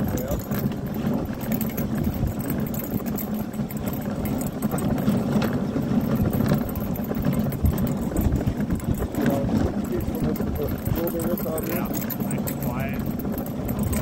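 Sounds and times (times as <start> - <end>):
sled runners rumbling over snow: 0.0 - 14.0.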